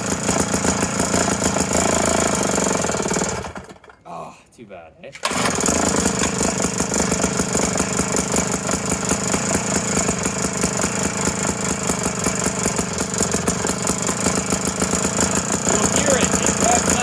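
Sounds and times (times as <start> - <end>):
two-stroke engine running: 0.0 - 4.0, 5.2 - 17.0.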